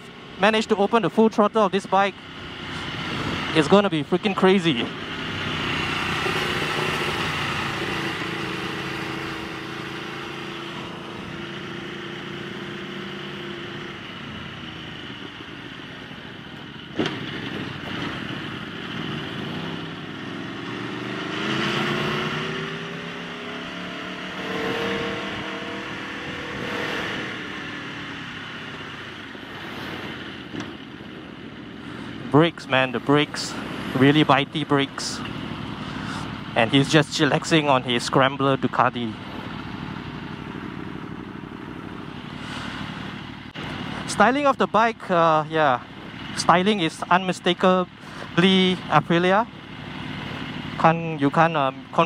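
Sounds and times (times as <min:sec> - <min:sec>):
motorcycle engine accelerating: 0:02.2 - 0:52.0.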